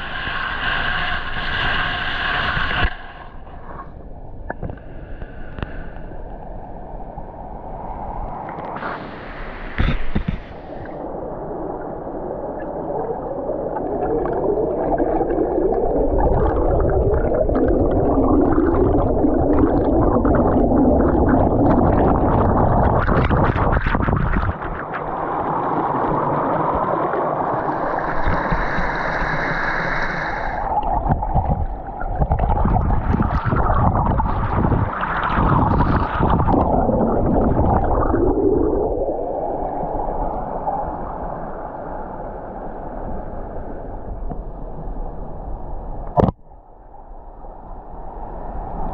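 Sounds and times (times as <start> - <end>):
muffled underwater water churning: 0.0 - 48.9.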